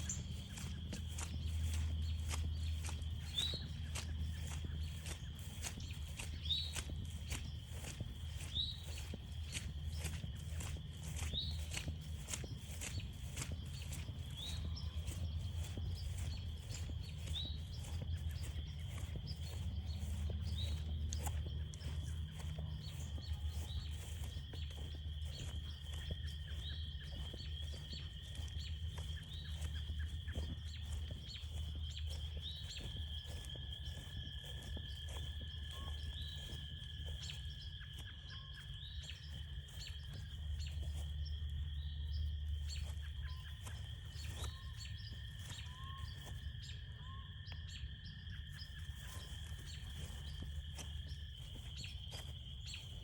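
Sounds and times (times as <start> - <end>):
footsteps crunching: 0.0 - 53.0
frogs trilling: 0.0 - 53.0.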